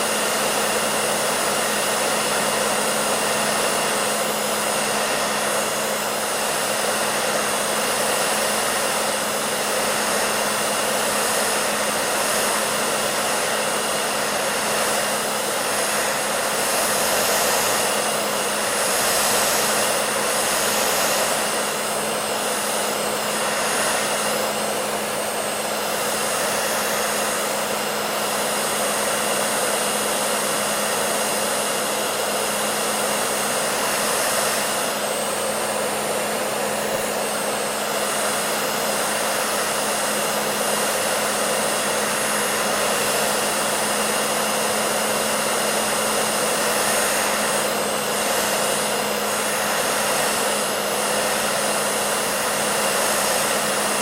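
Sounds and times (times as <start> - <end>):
hair dryer blowing: 0.0 - 54.0.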